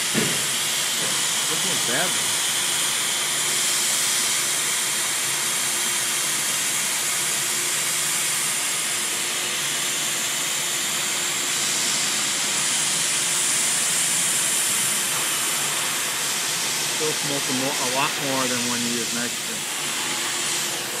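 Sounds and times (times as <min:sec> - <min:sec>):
hot air welding gun hissing: 0:00.0 - 0:21.0.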